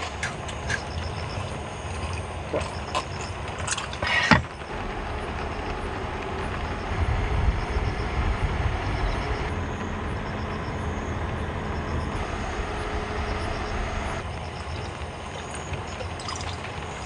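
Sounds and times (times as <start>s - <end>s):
heavy rain: 0.0s - 17.0s
low rumble: 0.0s - 17.0s.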